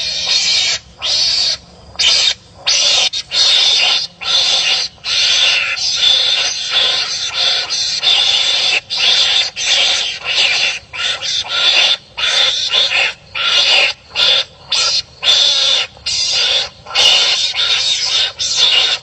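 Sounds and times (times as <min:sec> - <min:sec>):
animals fighting with raspy cries: 0:00.0 - 0:19.0.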